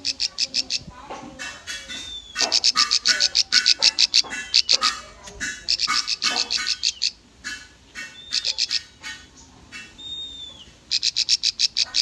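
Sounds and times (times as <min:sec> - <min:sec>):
bird chirping in rapid bursts: 0:00.0 - 0:12.0.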